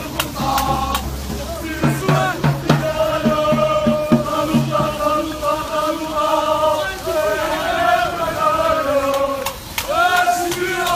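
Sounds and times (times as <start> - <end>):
person chanting long notes: 0.0 - 10.9.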